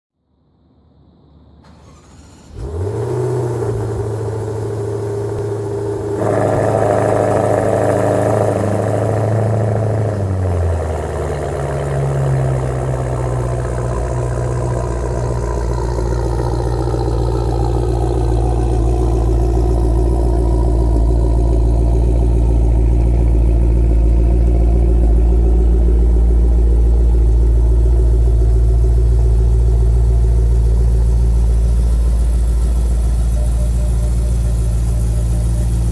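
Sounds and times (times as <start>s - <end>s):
car engine idling: 0.6s - 35.9s
car engine cold start: 1.5s - 35.9s.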